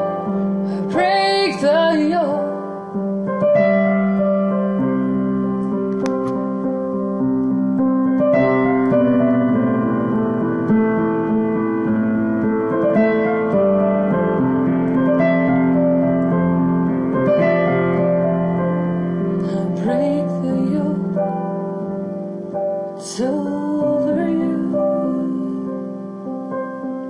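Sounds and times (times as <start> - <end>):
slow solo piano chords: 0.0 - 27.0.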